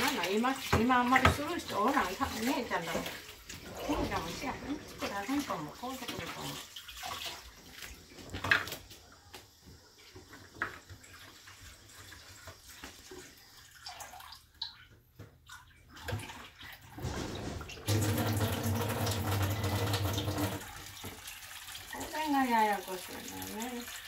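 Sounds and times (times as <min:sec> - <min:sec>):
tap water running: 0:00.0 - 0:24.0.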